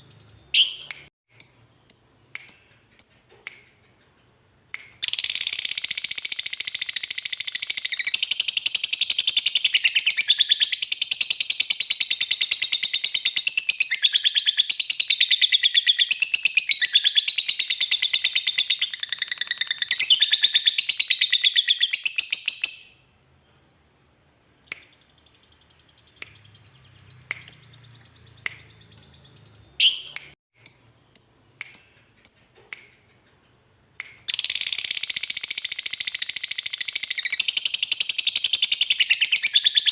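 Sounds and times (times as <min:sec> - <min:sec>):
bird chirps: 0:00.0 - 0:04.2, 0:04.8 - 0:39.9.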